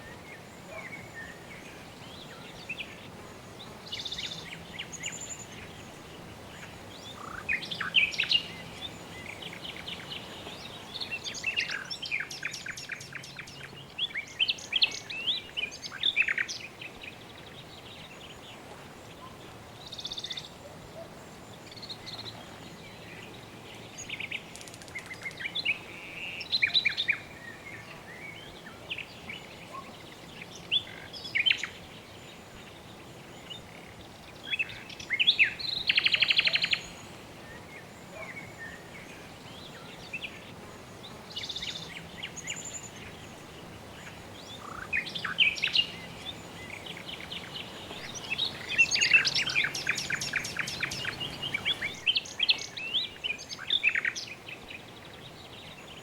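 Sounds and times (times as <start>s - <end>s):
birds chirping: 0.0s - 56.0s
faint background hiss: 0.0s - 56.0s.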